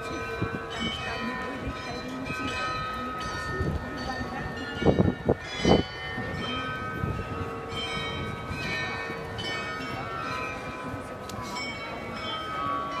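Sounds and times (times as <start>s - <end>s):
tower bells playing a tune: 0.0s - 13.0s.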